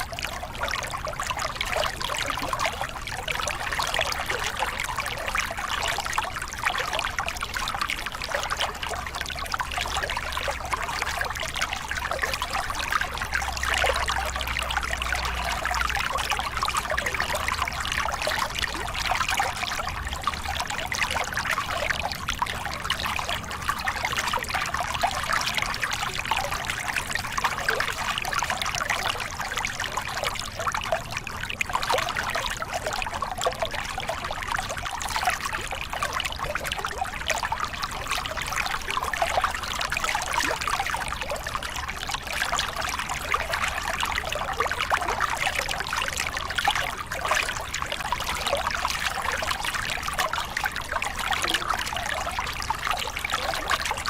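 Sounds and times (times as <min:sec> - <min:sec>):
water splashing over rocks: 0:00.0 - 0:54.0.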